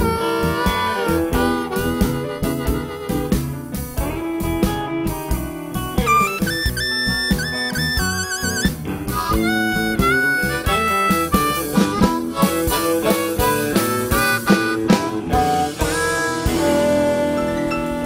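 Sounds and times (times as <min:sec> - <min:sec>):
blues harmonica playing: 0:00.0 - 0:18.0
live band with drums and guitar: 0:00.0 - 0:18.0.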